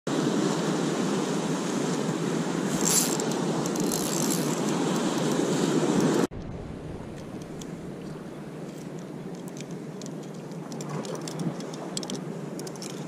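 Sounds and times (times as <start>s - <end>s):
quiet outdoor ambience: 0.1s - 13.0s.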